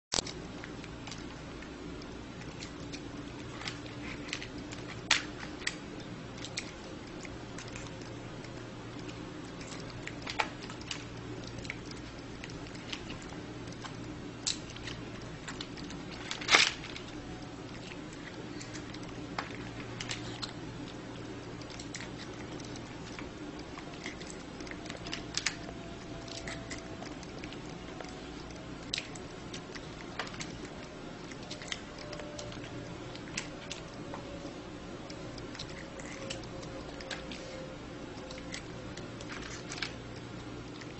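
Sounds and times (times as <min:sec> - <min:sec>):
steady low hum: 0:00.1 - 0:40.9.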